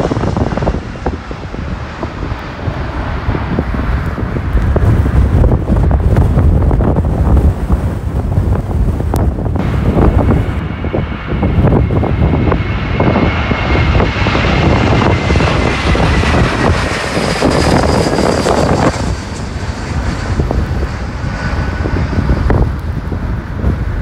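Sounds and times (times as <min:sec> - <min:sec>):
jet engines whining overhead: 0:00.0 - 0:24.0
wind buffeting microphone: 0:00.0 - 0:24.0.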